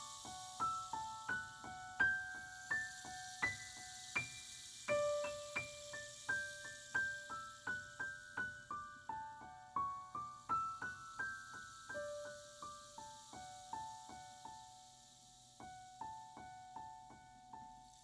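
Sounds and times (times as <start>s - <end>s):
slow keyboard melody: 0.0s - 18.0s.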